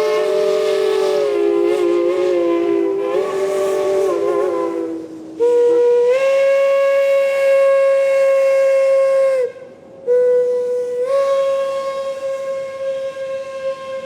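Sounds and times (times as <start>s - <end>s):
steam locomotive whistle blasts: 0.0s - 14.0s.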